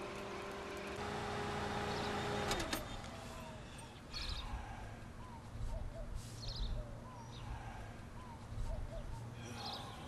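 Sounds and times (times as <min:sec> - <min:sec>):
birds chirping: 0:01.8 - 0:10.0.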